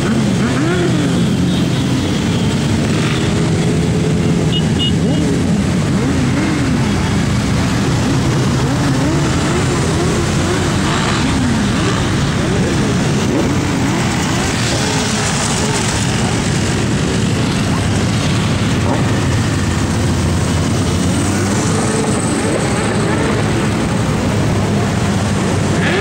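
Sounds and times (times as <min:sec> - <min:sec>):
motorcycles riding past revving: 0:00.0 - 0:26.0.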